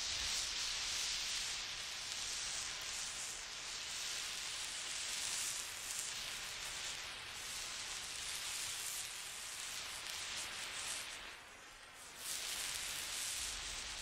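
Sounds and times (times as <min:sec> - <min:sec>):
steady static hiss: 0:00.0 - 0:14.0.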